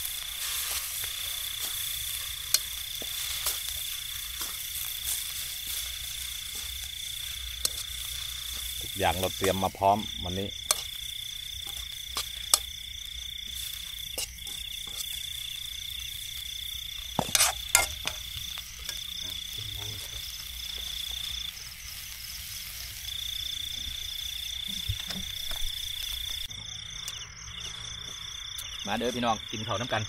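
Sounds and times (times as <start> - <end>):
fast pulsing insect call: 0.0 - 30.0
insects trilling: 0.0 - 30.0.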